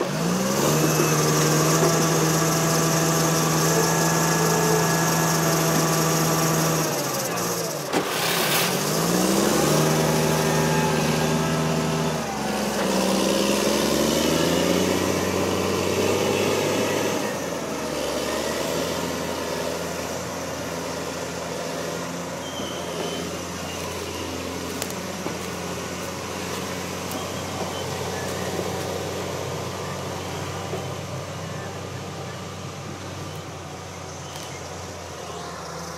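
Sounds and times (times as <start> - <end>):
diesel engine revving: 0.0 - 35.9.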